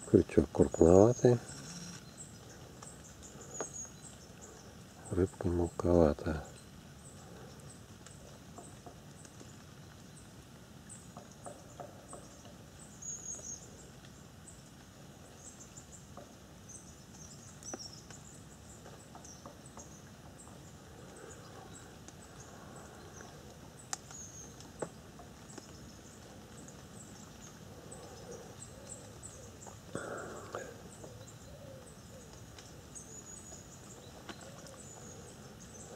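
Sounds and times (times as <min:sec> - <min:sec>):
outdoor ambience hiss: 0:00.0 - 0:35.9
small birds chirping: 0:00.0 - 0:35.9.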